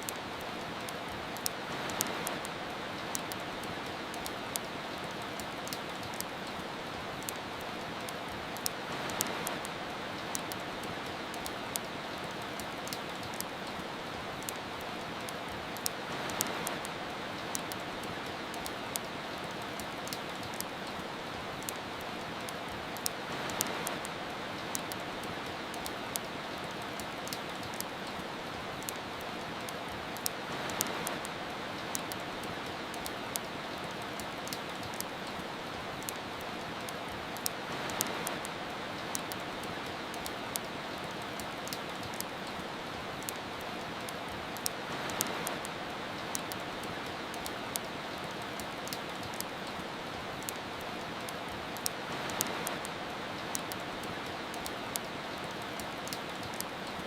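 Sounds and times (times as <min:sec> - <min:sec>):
soft rain hissing: 0:00.0 - 0:57.0
wood fire crackling: 0:00.0 - 0:57.0.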